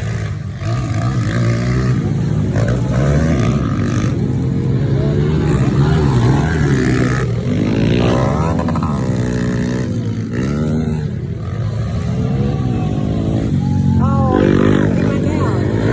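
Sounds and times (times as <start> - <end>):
pit bike engines revving: 0.0 - 15.9.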